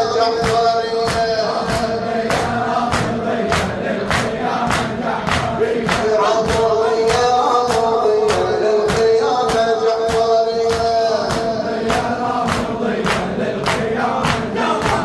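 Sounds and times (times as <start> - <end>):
men singing long notes: 0.0 - 15.0.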